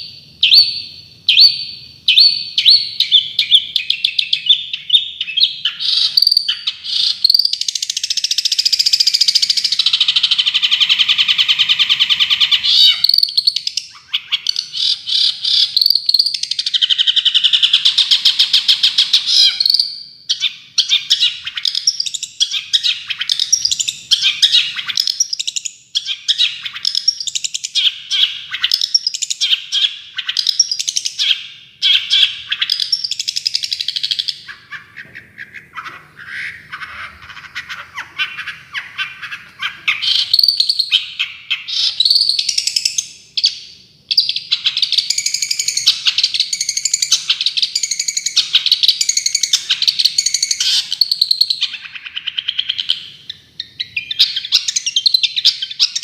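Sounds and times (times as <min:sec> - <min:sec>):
songbird trilling and chirping: 0:00.0 - 0:56.0.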